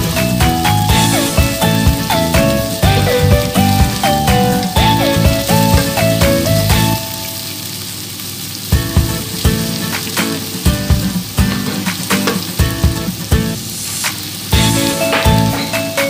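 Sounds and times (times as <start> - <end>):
background music with beat: 0.0 - 7.1, 8.7 - 16.0
vegetables sizzling in oil: 0.0 - 16.0.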